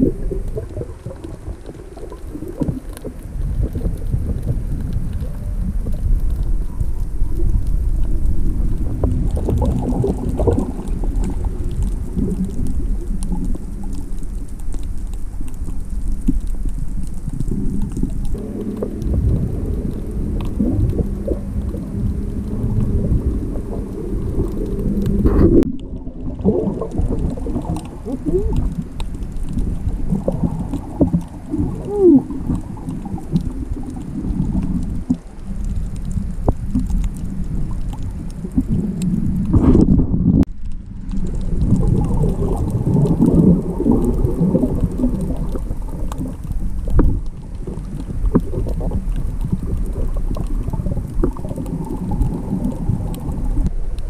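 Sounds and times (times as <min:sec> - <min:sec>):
muffled underwater water noise: 0:00.0 - 0:54.0
snorkelers swimming underwater: 0:00.0 - 0:54.0.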